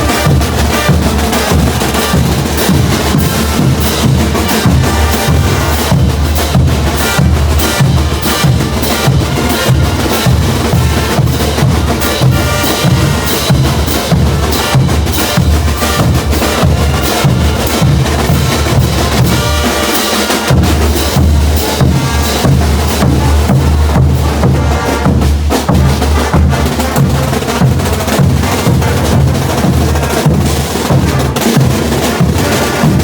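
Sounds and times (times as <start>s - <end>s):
bass drum beat: 0.0s - 33.0s
brass band playing: 0.0s - 33.0s
snare drum: 0.0s - 33.0s.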